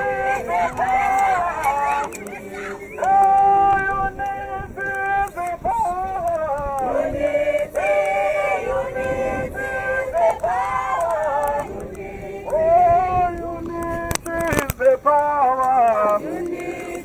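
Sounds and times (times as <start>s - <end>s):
group of marchers singing: 0.0s - 17.0s.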